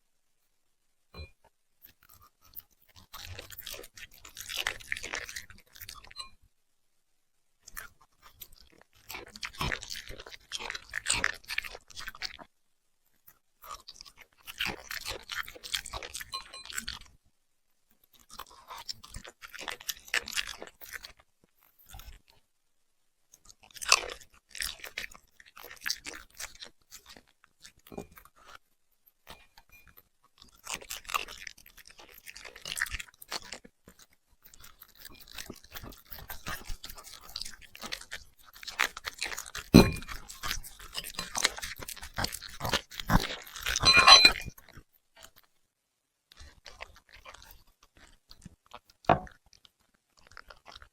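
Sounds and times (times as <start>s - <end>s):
puppy crunching food: 1.8s - 6.3s, 7.6s - 12.5s, 13.1s - 17.2s, 18.0s - 22.4s, 23.3s - 45.5s, 46.3s - 50.9s.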